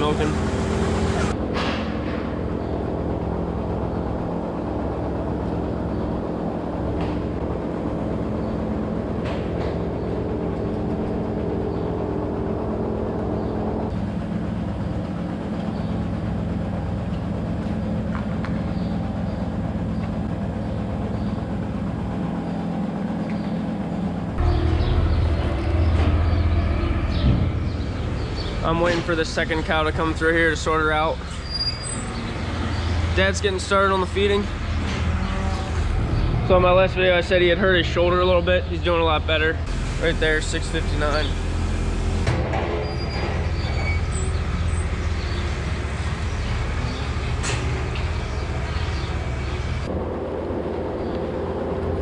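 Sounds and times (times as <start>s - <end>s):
low rumble: 0.0s - 52.0s
milking machinery humming: 0.0s - 52.0s.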